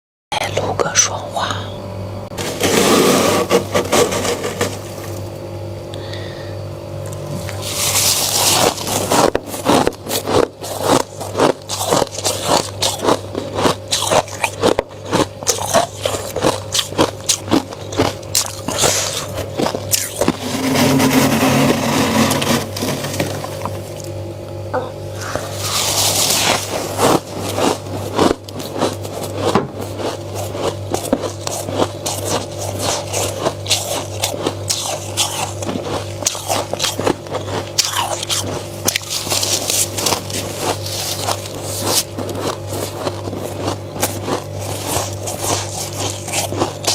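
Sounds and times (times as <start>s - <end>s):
steady low hum: 0.3s - 46.9s
frost being crunched: 7.5s - 24.1s, 25.2s - 46.9s.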